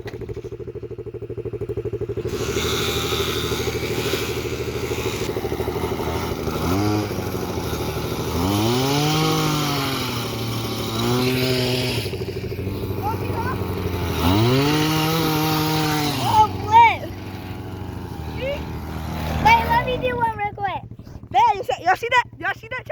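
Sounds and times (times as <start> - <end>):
mini bike motor revving: 0.0 - 22.9.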